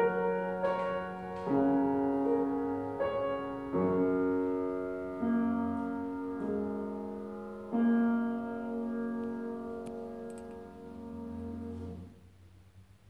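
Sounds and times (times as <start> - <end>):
piano slow sustained chords: 0.0 - 12.8.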